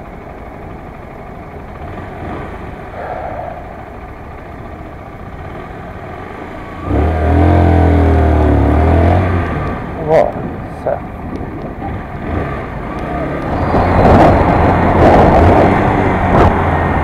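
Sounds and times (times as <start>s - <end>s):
loud low engine drone: 0.0s - 17.0s
motorcycle engine and road noise: 0.0s - 17.0s.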